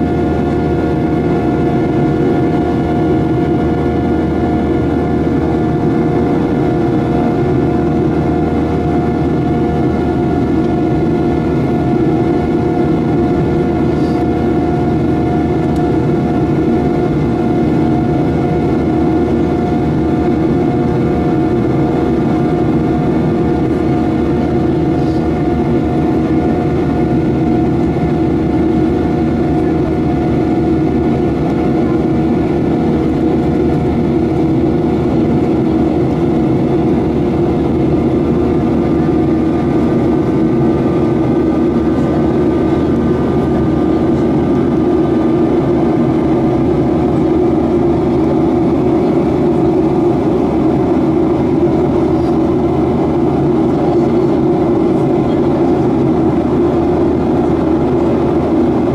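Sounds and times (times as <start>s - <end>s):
steady humming tones: 0.0s - 58.9s.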